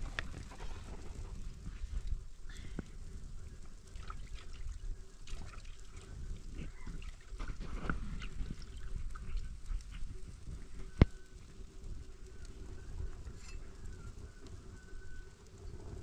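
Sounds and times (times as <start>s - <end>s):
open wood fire crackling: 0.0s - 16.0s.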